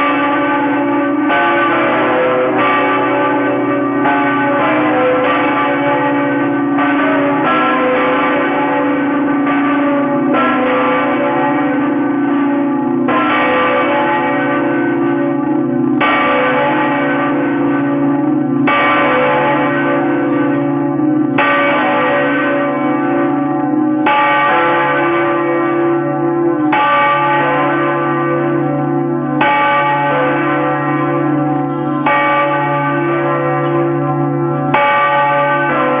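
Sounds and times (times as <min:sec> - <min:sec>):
church bells pealing: 0:00.0 - 0:36.0.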